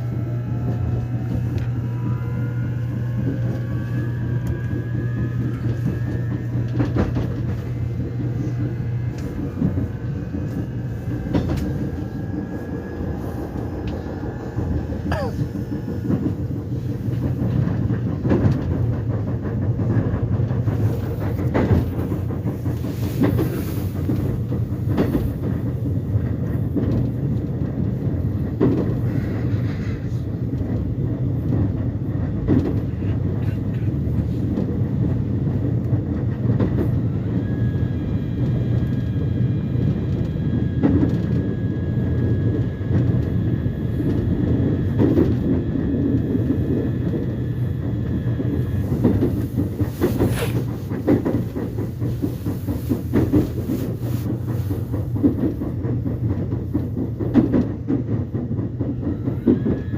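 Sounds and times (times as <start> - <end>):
train wheels rumbling on track: 0.0 - 59.9
clacks over rail joints: 3.2 - 59.9.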